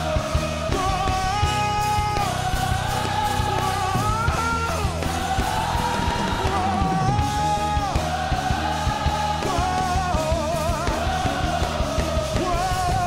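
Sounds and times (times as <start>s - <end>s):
church band music: 0.0s - 13.0s.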